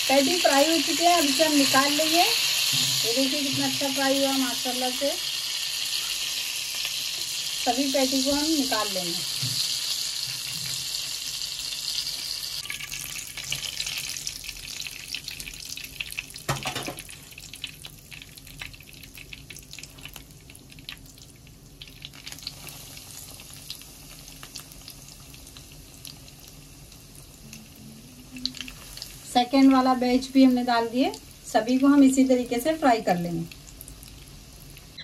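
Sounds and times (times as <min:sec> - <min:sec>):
chicken frying in oil: 0:00.0 - 0:35.0.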